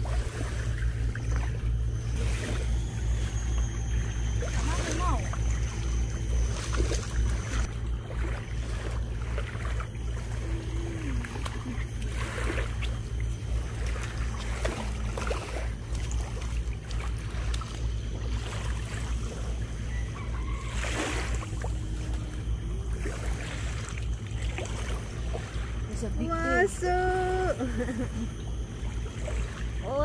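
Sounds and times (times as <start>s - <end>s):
water lapping at shoreline: 0.0s - 30.0s.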